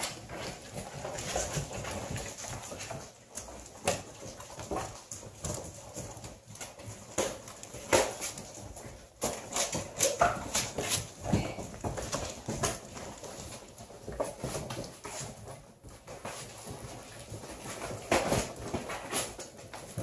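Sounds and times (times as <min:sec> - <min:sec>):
puppy claws clicking on tile: 0:00.0 - 0:20.0.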